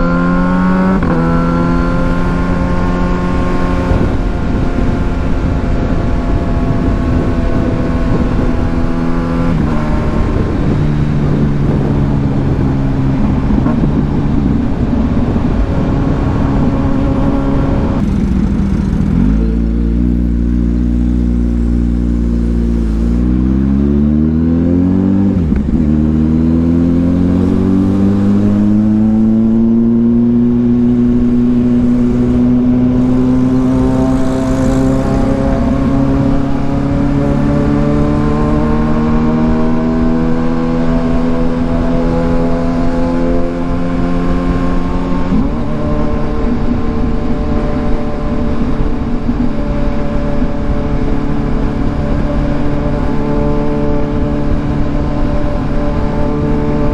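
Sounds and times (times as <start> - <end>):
motorcycle engine revving: 0.0 - 56.9
wind rush: 0.0 - 56.9.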